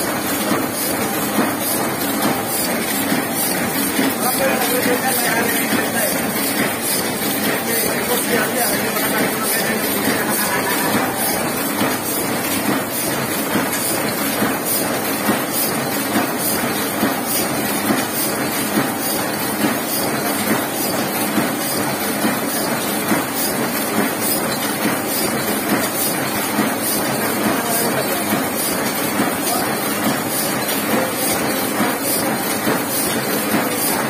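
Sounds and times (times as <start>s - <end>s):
printing press clattering: 0.0s - 34.0s.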